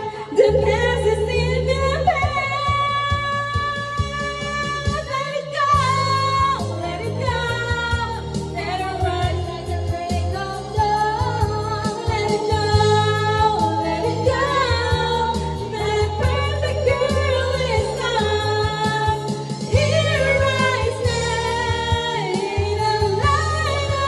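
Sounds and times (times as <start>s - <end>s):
karaoke backing track: 0.0s - 24.0s
women singing karaoke: 0.0s - 24.0s.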